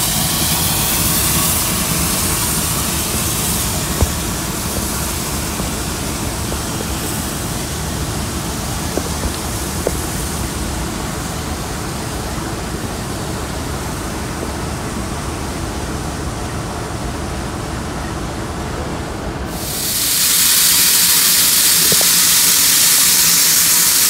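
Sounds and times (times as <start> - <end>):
rumble of wheels on rails: 0.0 - 24.0.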